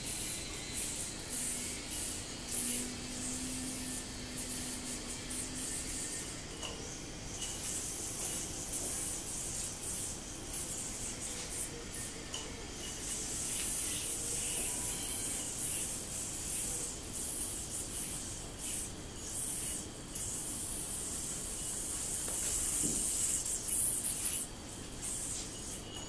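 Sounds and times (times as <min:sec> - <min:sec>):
yo-yo string rubbing hiss: 0:00.0 - 0:26.0.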